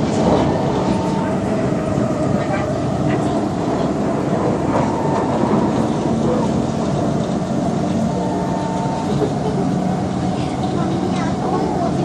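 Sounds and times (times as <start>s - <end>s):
metro train rail rumble: 0.0s - 12.0s
train machinery hum: 0.0s - 12.0s.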